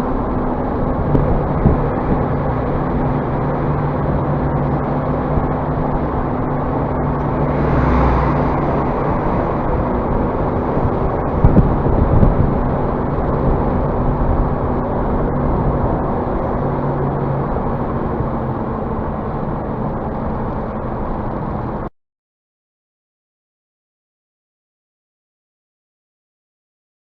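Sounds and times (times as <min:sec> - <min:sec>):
bus engine hum: 0:00.0 - 0:21.9
bus jolts: 0:00.0 - 0:21.9
road noise: 0:00.0 - 0:21.9.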